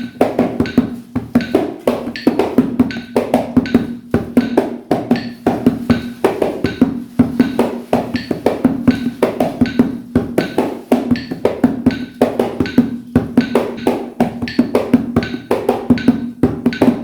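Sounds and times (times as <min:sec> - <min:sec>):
hands drumming on a pot: 0:00.0 - 0:17.0.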